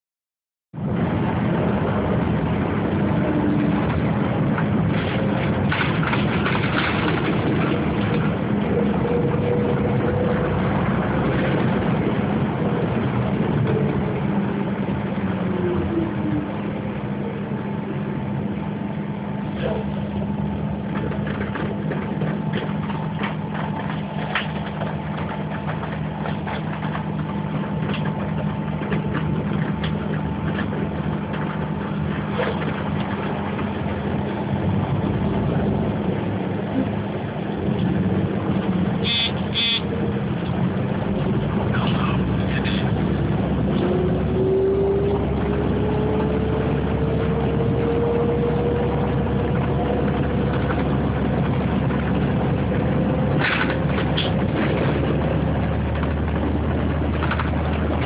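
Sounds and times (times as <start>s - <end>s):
road noise: 0.7s - 58.0s
bus engine hum: 0.8s - 58.0s.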